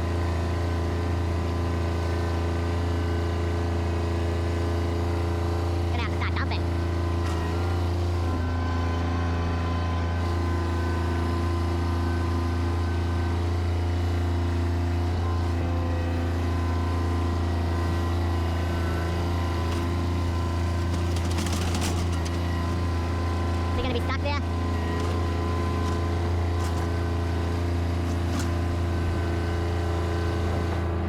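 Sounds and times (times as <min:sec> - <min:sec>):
diesel engine droning: 0:00.0 - 0:31.0
steady engine whine: 0:00.0 - 0:31.0.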